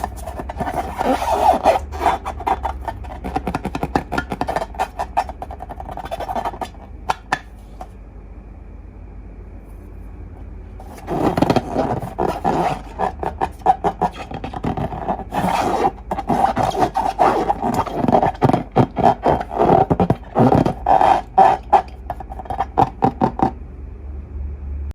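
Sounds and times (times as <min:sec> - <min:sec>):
balloons and slime squeaking: 0:00.0 - 0:07.5, 0:10.8 - 0:23.5.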